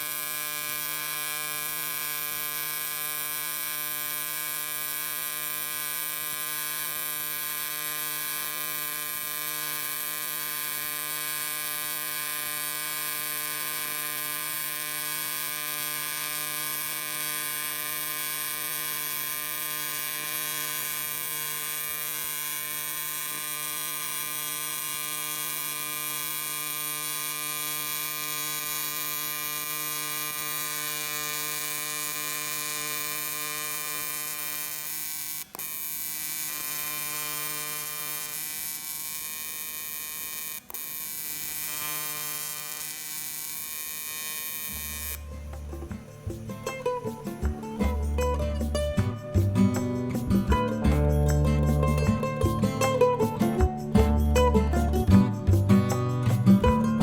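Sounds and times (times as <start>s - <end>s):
welding arc buzzing and hissing: 0.0s - 53.9s.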